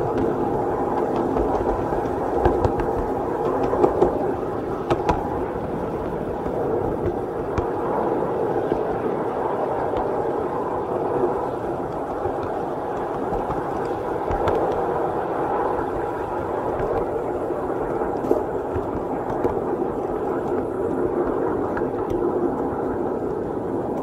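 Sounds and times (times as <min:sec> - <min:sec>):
small train rolling on track: 0:00.0 - 0:24.0.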